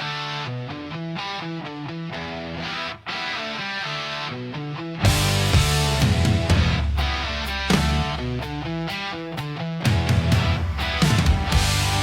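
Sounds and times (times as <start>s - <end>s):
rock band playing: 2.3s - 12.0s.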